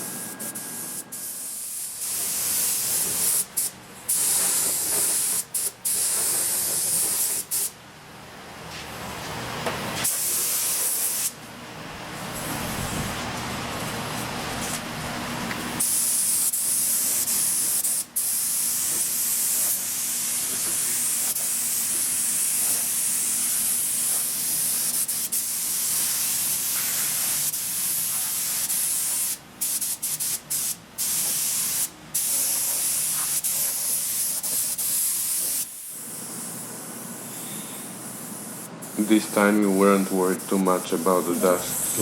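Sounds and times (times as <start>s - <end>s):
spray gun hissing: 0.0s - 7.8s, 10.0s - 11.4s, 15.8s - 42.0s.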